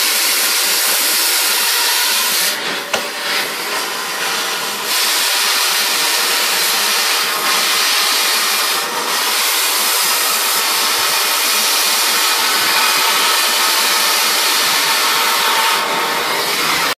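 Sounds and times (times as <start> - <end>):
cutting torch hissing: 0.0 - 16.9.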